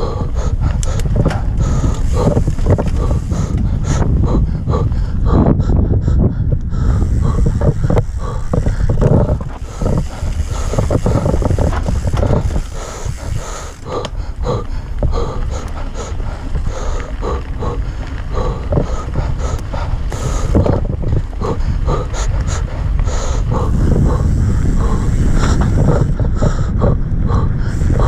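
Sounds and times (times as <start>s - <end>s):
tyres on dirt: 0.0s - 4.2s, 7.0s - 26.2s
bike knocking and rattling: 0.0s - 5.0s, 6.7s - 26.7s
wind buffeting microphone: 0.0s - 28.0s.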